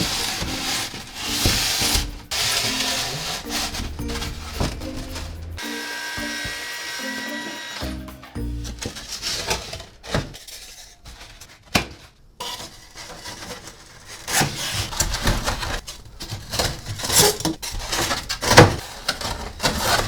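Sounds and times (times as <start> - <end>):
hands rubbing and scraping insulation: 0.0 - 5.6, 8.6 - 20.0.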